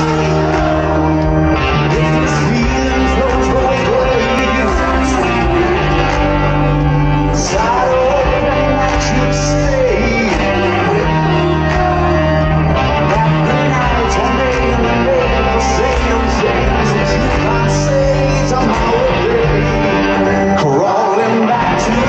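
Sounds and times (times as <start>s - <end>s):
live rock band playing: 0.0s - 22.0s
person singing: 0.0s - 22.0s.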